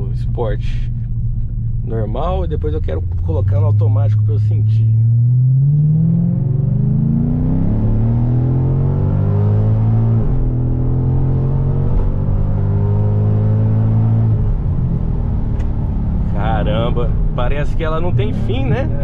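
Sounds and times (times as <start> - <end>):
vee eight engine accelerating: 0.0 - 19.0.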